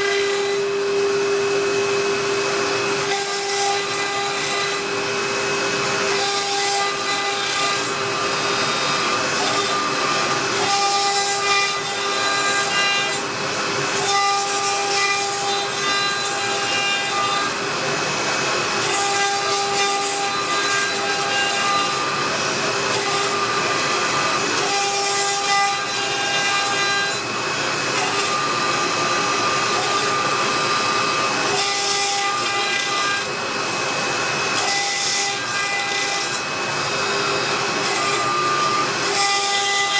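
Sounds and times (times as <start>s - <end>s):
gritty cutting noise: 0.0s - 39.9s
router spindle whining: 0.0s - 39.9s.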